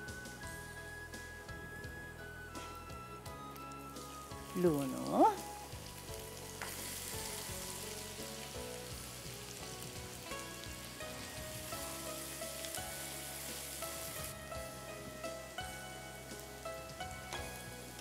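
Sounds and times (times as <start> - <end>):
onions sizzling in hot oil: 0.0 - 18.0
soft background music: 0.0 - 18.0.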